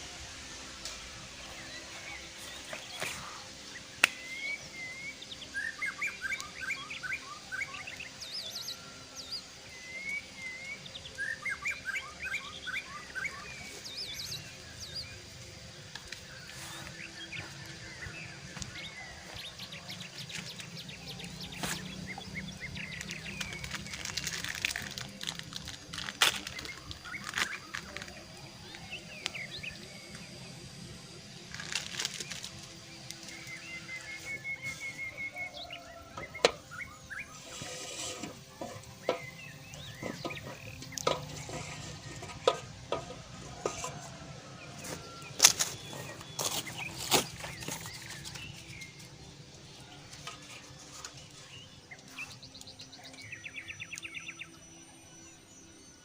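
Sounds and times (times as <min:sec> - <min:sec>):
birds chirping and whistling: 0:00.0 - 0:56.0
steady background hum: 0:00.0 - 0:56.0.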